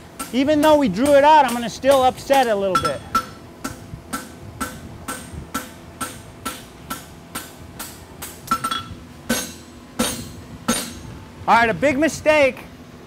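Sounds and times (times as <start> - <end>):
hammer striking steel on anvil: 0.2 - 11.1.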